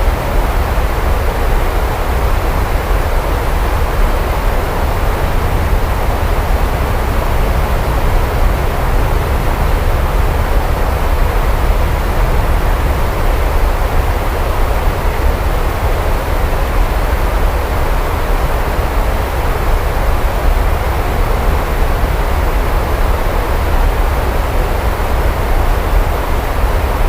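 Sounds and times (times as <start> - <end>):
constant low rumble: 0.0 - 27.0
steady rain hissing: 0.0 - 27.0.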